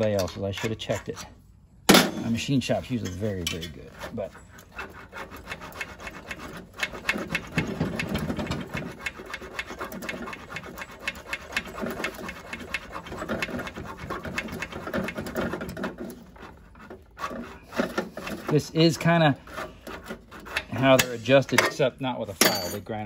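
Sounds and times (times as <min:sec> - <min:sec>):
hand file rasping on metal: 0:02.4 - 0:21.9.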